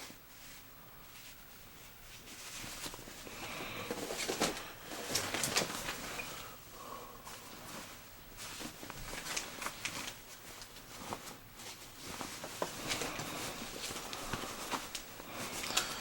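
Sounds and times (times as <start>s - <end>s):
fabric rustling: 0.0s - 16.0s.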